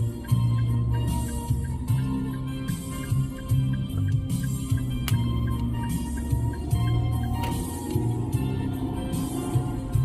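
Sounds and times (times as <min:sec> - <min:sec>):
light ticking rhythm: 0:00.0 - 0:10.0
low bass line: 0:00.0 - 0:10.0
music with a steady beat: 0:00.0 - 0:10.0.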